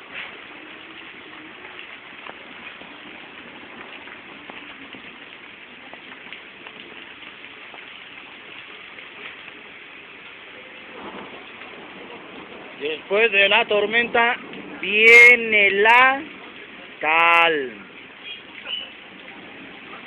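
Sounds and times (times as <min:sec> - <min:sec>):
raindrop ticks: 0:00.0 - 0:20.0
steady rain falling: 0:00.0 - 0:20.0.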